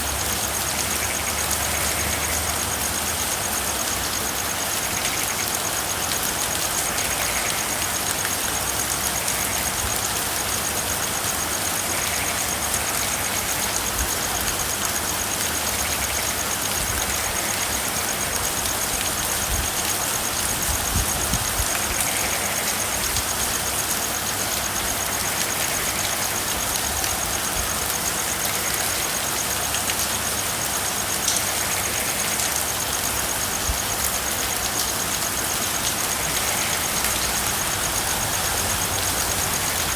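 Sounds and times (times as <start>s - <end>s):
faint frog calls: 0.0s - 39.9s
steady rain hiss: 0.0s - 39.9s.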